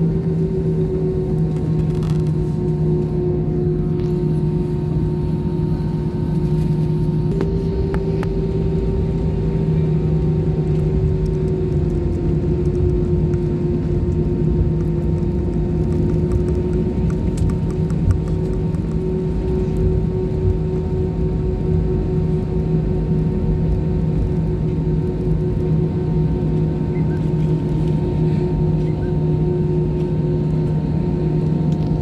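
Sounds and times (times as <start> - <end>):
airliner engine drone: 0.0 - 32.0
constant cabin hum: 0.0 - 32.0.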